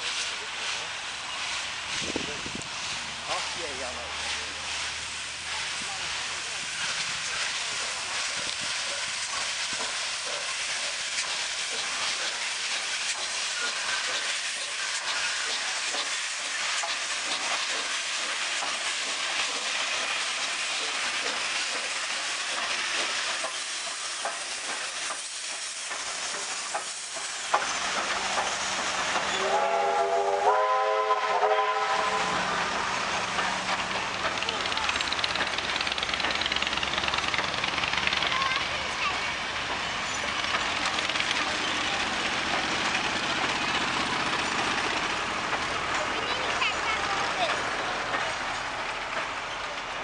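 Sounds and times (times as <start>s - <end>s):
steam hissing: 0.0s - 50.0s
train wheels rolling: 0.0s - 50.0s.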